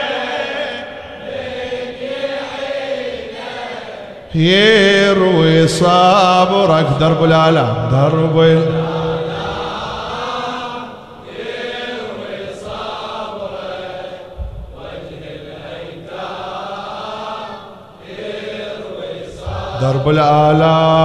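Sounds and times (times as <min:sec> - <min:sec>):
men chanting together: 0:00.0 - 0:21.0.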